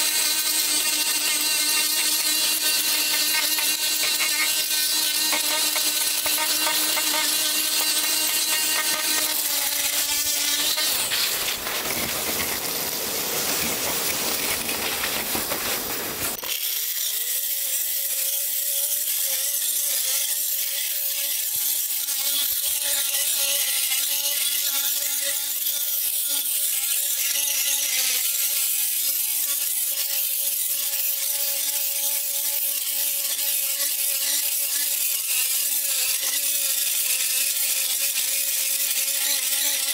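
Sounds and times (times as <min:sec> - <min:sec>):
blade scraping concrete: 0:00.0 - 0:39.9
multi-tool buzzing hum: 0:00.0 - 0:39.9.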